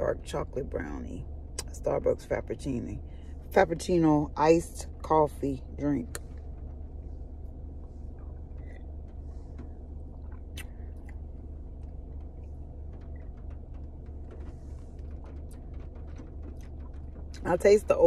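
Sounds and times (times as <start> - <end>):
low rumble inside a car: 0.0 - 18.0.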